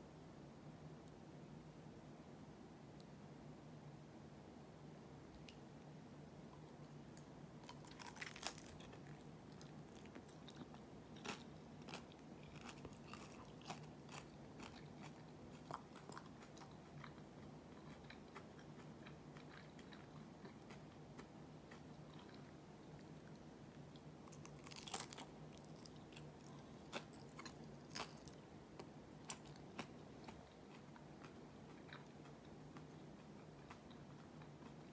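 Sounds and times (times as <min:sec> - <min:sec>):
crunching and chewing fried dumplings: 0:06.5 - 0:34.9.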